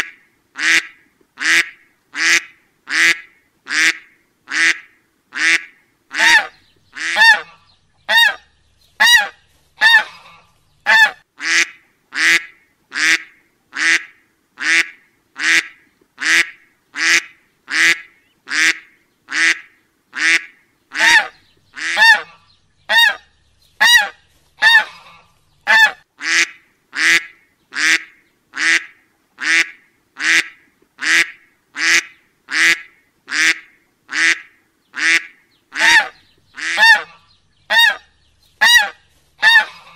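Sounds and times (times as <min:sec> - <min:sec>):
waterfowl honking: 0:00.6 - 0:19.6, 0:20.2 - 0:39.9.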